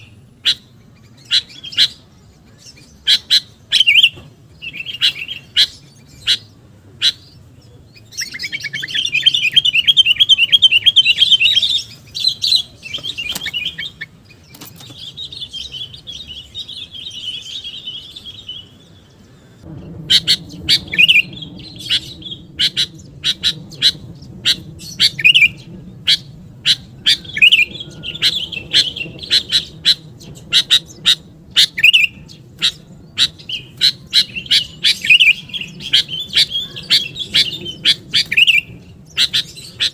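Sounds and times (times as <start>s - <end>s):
low steady hum: 0.0s - 39.9s
rapid repeated bird notes: 0.0s - 39.9s.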